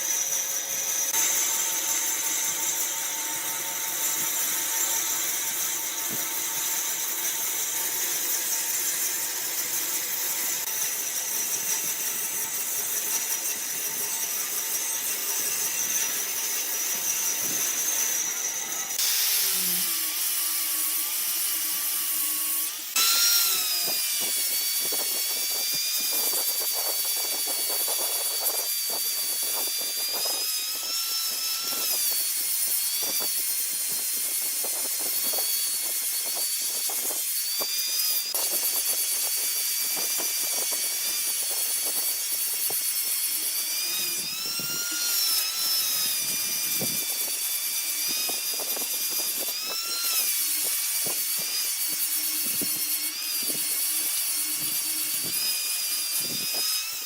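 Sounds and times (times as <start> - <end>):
wavering machine whine: 0.0 - 32.2, 38.2 - 57.0
power tool cutting wood: 0.0 - 57.0.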